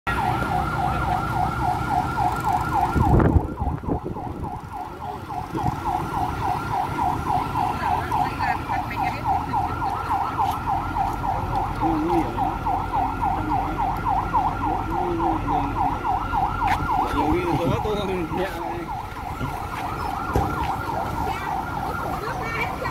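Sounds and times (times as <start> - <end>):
fire engine siren yelping: 0.1 - 22.9.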